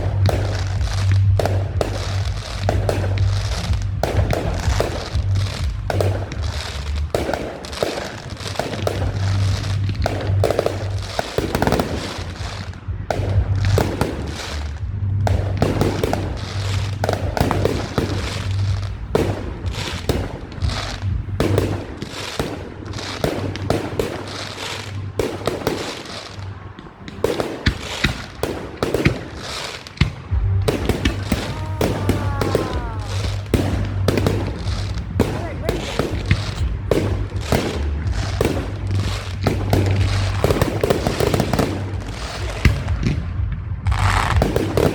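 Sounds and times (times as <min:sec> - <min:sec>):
fireworks bangs and crackling: 0:00.0 - 0:44.9
whistling fireworks: 0:00.0 - 0:44.9.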